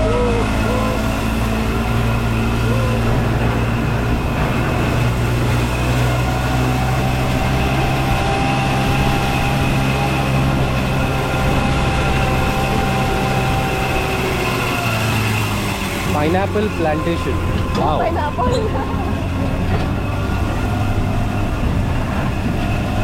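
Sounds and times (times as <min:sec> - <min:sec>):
small train engine running: 0:00.0 - 0:23.0.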